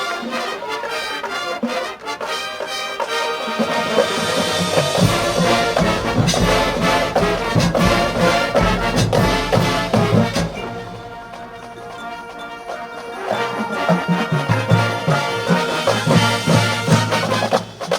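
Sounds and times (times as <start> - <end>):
marching band brass: 0.0 - 17.9
marching band percussion: 0.0 - 17.9.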